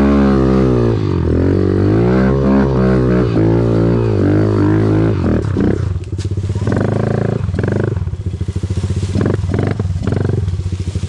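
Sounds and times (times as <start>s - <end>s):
dirt bike engine chugging: 0.0s - 11.0s.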